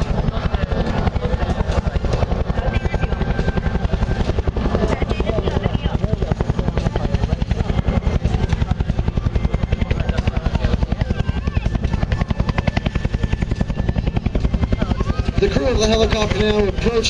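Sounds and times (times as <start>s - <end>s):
helicopter rotor thumping: 0.0s - 17.0s.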